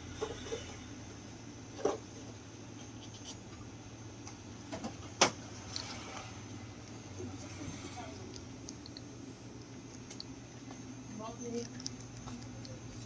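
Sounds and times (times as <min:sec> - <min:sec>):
low hum with high whine: 0:00.0 - 0:13.0.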